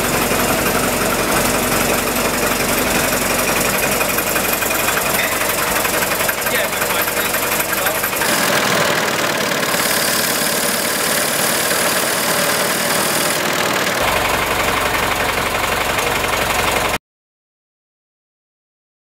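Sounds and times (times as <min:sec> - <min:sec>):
bus petrol engine running: 0:00.0 - 0:17.0.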